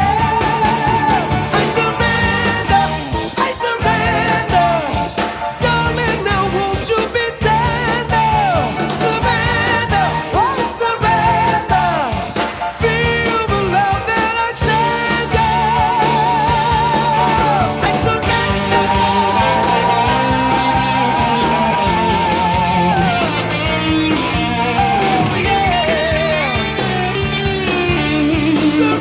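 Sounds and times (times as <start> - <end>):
rock song with singer: 0.0 - 29.0.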